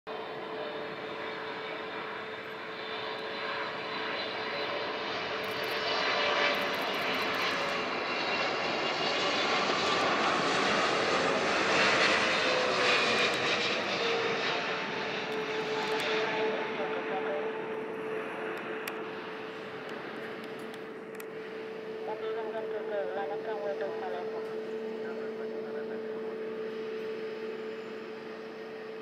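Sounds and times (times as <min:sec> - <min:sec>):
jet engines rumbling and whining: 0:00.1 - 0:29.0.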